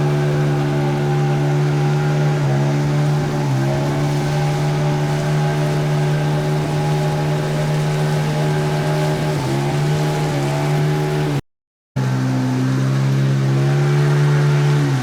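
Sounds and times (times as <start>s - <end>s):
engine running: 0.0s - 11.4s, 12.0s - 15.0s.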